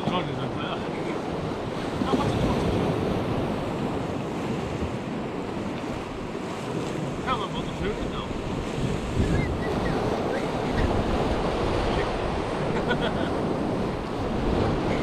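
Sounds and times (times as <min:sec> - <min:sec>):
sea surf on rocky shore: 0:00.0 - 0:15.0
wind buffeting microphone: 0:00.0 - 0:15.0.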